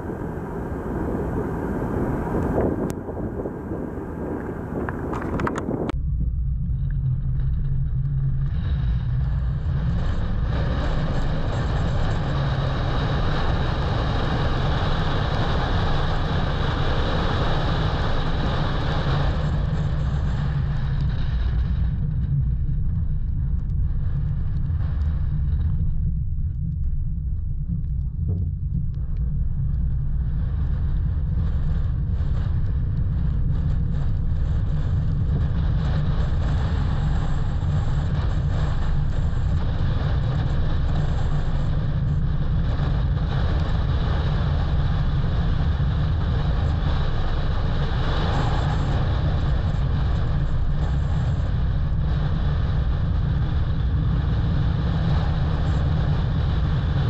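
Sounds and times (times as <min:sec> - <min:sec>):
muffled wind rumble on microphone: 0:00.0 - 0:57.0.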